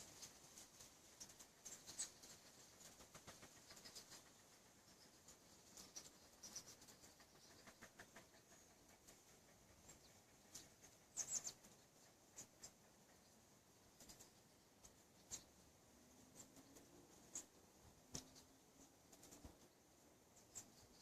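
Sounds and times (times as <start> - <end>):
faint high clicks and ticks: 0.0 - 21.0.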